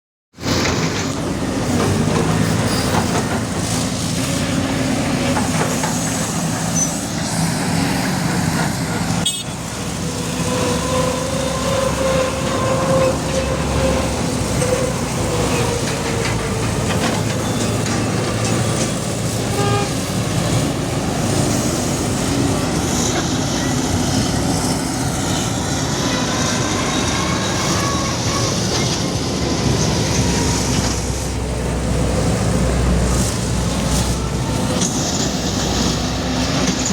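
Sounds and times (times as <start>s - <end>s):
diesel engine running: 0.4s - 36.9s
steel tracks clanking: 0.4s - 36.9s
drawn-out squeals: 0.5s - 36.9s.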